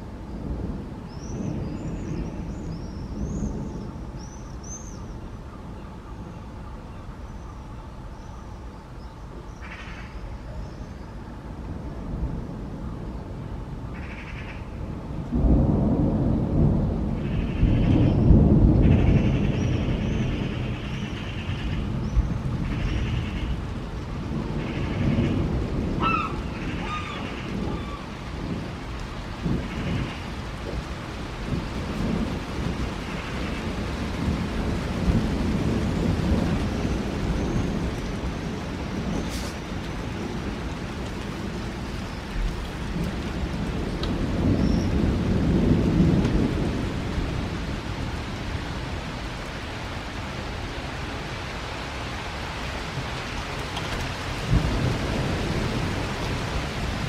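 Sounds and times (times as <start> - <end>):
distant thunder rumbling: 0.0 - 6.4, 11.4 - 57.0.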